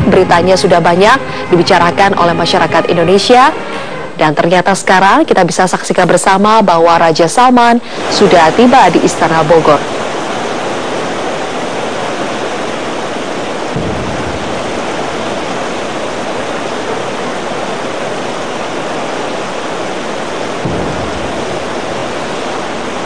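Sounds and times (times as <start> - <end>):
heavy rain hiss: 0.0 - 23.0.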